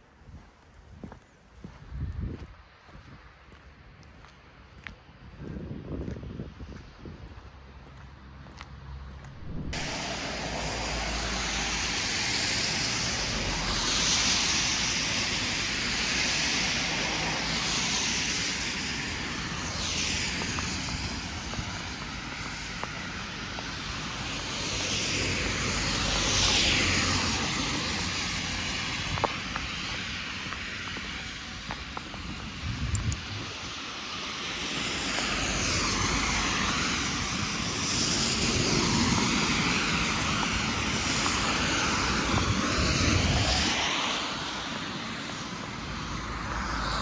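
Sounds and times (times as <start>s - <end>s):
vehicles passing by: 0.0s - 47.0s.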